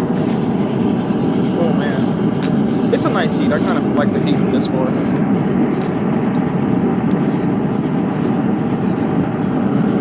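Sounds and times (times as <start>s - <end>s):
gas burner flame roaring: 0.0s - 10.0s.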